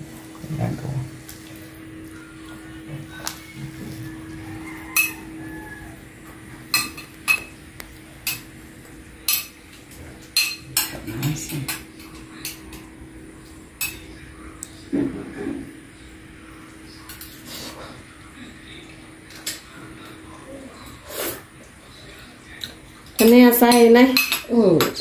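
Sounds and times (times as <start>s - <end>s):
steady low hum: 0.0s - 23.6s.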